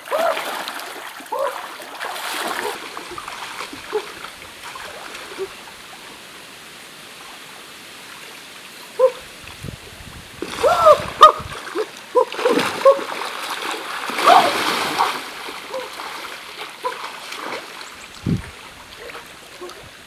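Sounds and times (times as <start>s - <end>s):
water splashing from wading: 0.0s - 9.6s, 10.2s - 20.0s
stream trickling: 0.0s - 20.0s.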